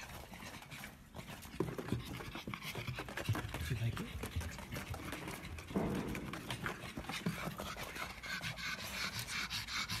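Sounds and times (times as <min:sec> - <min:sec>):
dog panting: 0:00.0 - 0:10.0
paws tapping on treadmill belt: 0:00.0 - 0:10.0.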